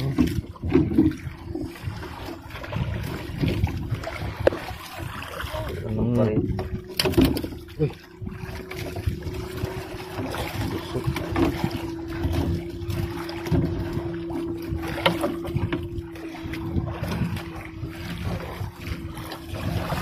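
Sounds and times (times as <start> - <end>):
small boat engine running: 0.0 - 20.0
water splashing: 0.0 - 20.0.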